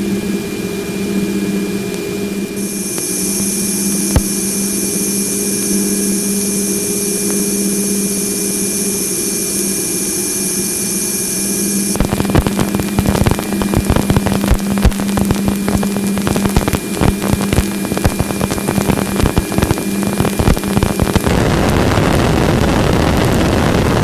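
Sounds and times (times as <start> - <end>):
low hum: 0.0 - 24.0
steady electronic hiss: 0.0 - 24.0
high hiss: 0.5 - 24.0
dense crackling: 1.9 - 24.0.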